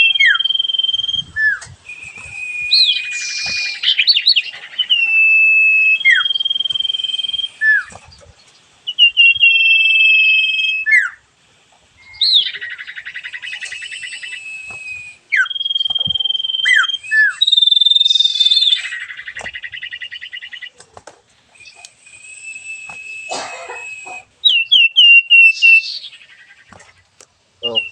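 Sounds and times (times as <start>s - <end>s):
songbird singing: 0.0s - 27.9s.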